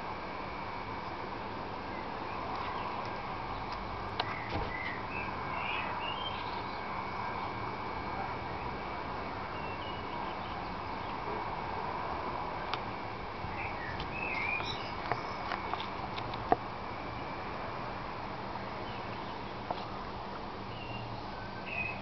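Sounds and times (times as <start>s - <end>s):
steady outdoor background noise: 0.0s - 22.0s.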